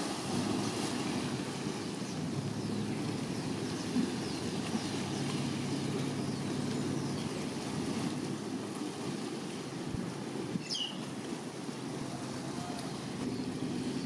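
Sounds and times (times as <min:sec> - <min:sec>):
distant jet engine rumble: 0:00.0 - 0:14.0.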